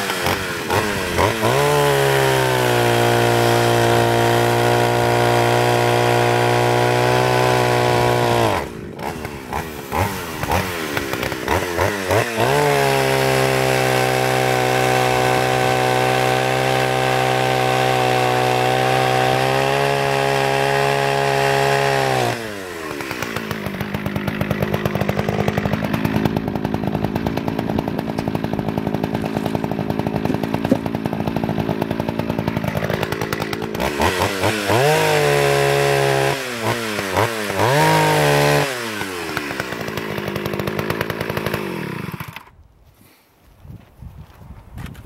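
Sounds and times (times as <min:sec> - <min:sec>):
chainsaw idling and revving: 0:00.0 - 0:42.6.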